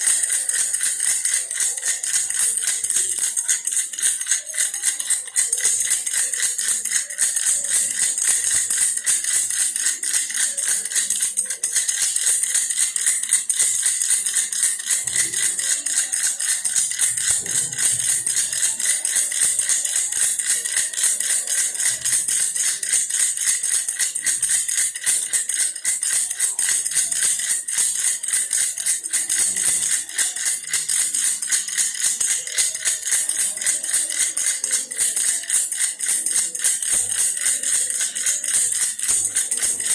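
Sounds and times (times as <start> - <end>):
toy rattle shaken: 0.0 - 39.9.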